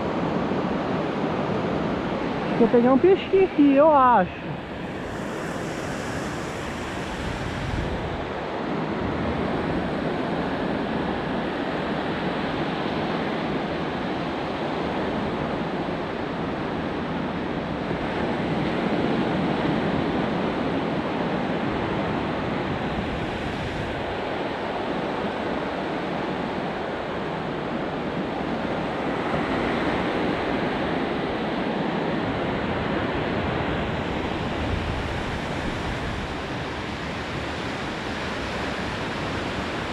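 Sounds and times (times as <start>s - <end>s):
ocean surf breaking on beach: 0.0s - 39.9s
wind: 0.0s - 39.9s.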